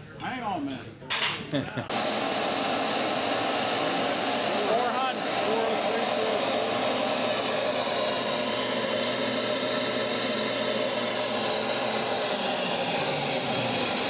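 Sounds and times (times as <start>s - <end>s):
air rushing through flow bench: 1.9s - 14.0s.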